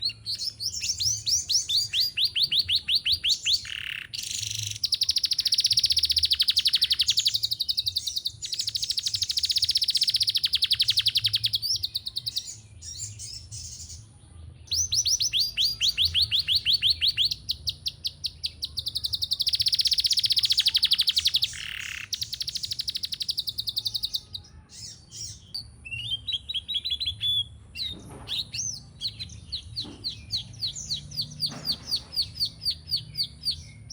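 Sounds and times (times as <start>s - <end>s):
canary singing high trills: 0.0s - 13.8s, 14.7s - 33.9s.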